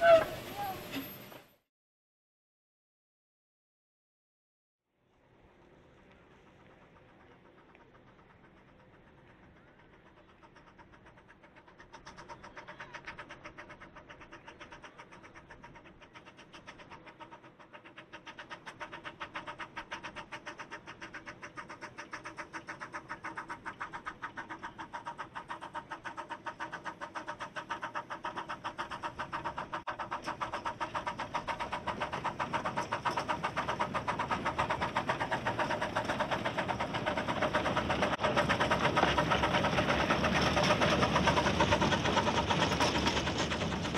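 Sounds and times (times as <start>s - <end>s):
steam locomotive exhaust beats: 0.0s - 1.6s, 5.0s - 43.9s.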